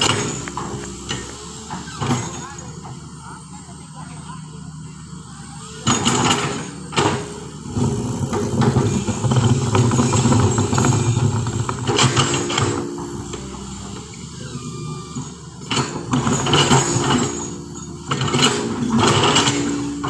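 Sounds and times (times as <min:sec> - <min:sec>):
heavy vehicle engine under load: 0:00.0 - 0:20.0.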